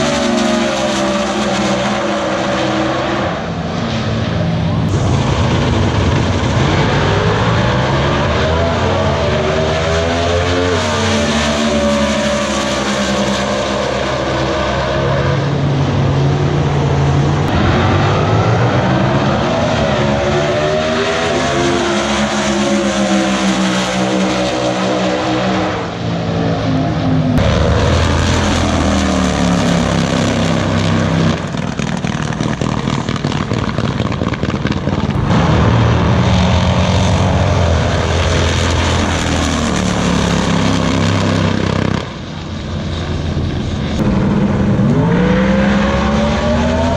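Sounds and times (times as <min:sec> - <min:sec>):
drag racing car engines revving: 0:00.0 - 0:46.9.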